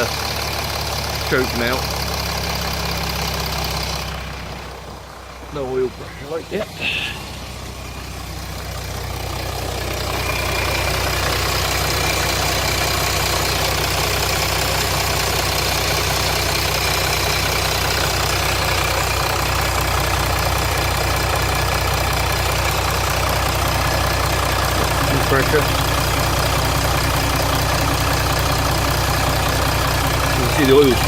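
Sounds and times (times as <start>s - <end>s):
diesel engine idling with rattle: 0.0s - 31.0s.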